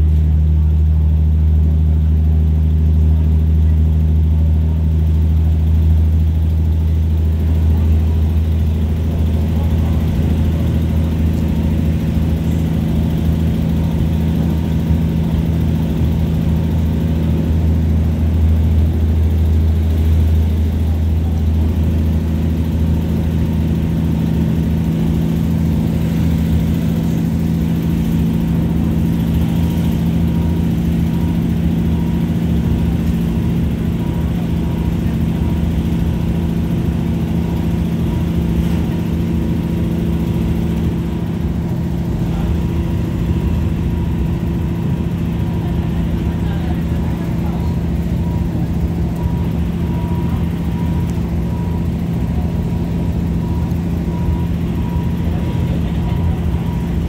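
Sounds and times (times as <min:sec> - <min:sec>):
train diesel engine droning: 0:00.0 - 0:57.0.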